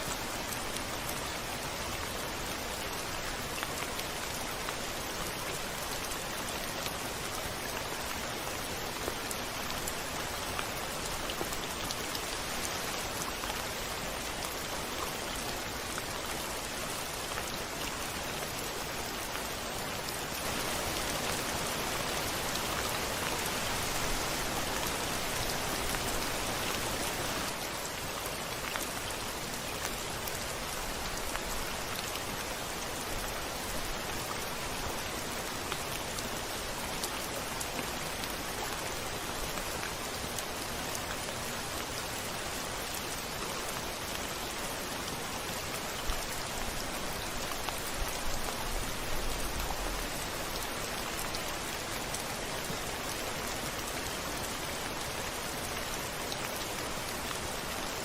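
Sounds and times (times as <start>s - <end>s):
rain on a window pane: 0.0s - 58.0s.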